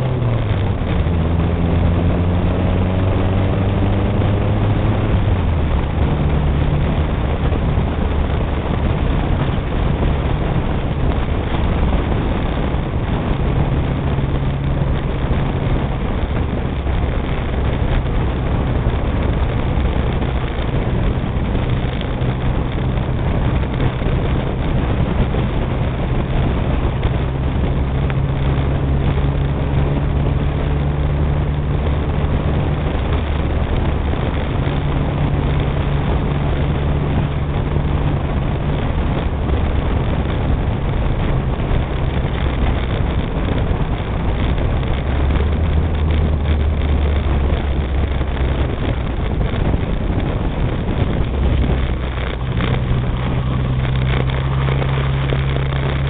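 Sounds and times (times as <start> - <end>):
car engine running: 0.0 - 56.0
tyre and wind noise: 0.0 - 56.0.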